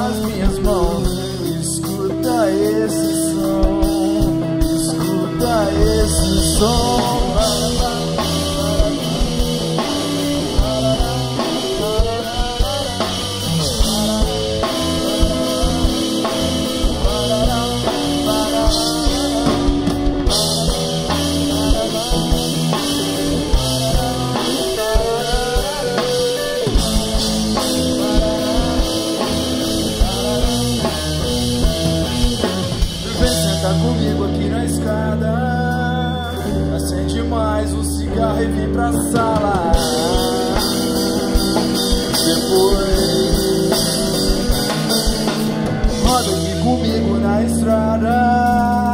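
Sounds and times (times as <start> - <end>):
drum kit: 0.0 - 48.9
electric bass: 0.0 - 48.9
electric guitar: 0.0 - 48.9.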